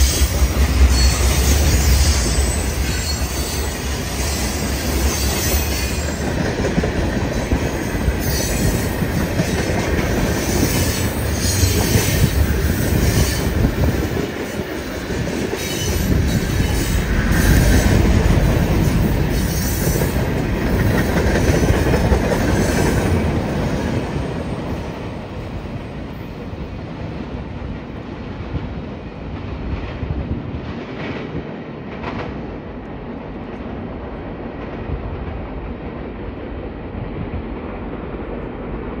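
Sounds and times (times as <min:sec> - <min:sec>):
freight train cars rolling: 0:00.0 - 0:33.2.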